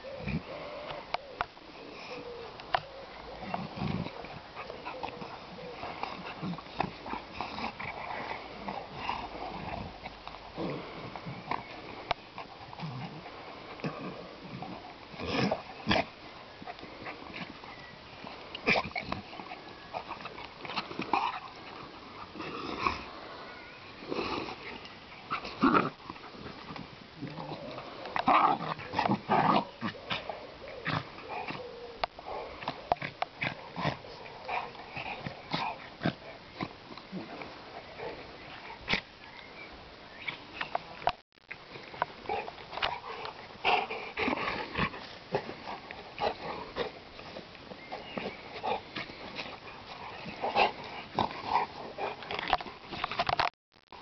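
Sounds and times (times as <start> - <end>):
dogs play-fighting vocalizing: 0.1 - 53.5.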